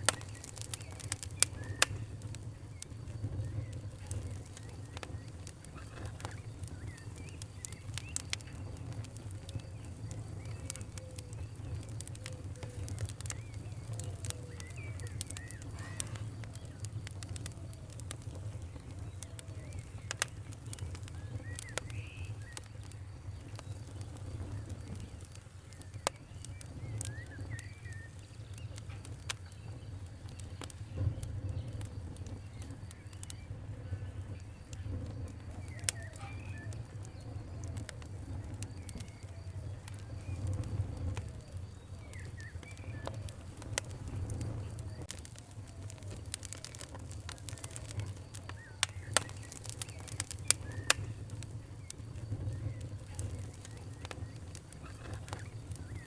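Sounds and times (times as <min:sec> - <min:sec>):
faint birds chirping: 0:00.0 - 0:56.0
wood fire crackling: 0:00.0 - 0:56.0.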